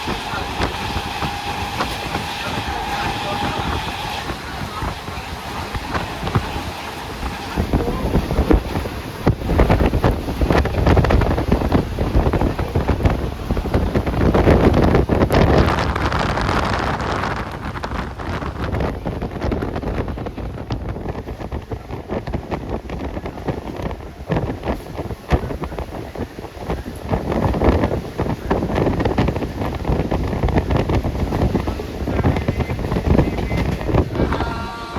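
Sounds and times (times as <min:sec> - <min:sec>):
train rumbling and clattering: 0:00.0 - 0:34.9
wind buffeting microphone: 0:00.0 - 0:34.9.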